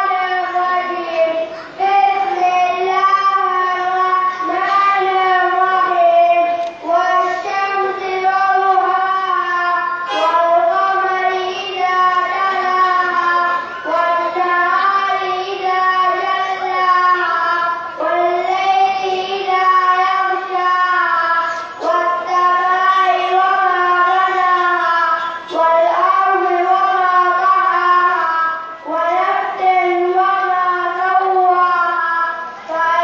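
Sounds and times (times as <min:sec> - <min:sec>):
boys singing in unison: 0:00.0 - 0:33.0.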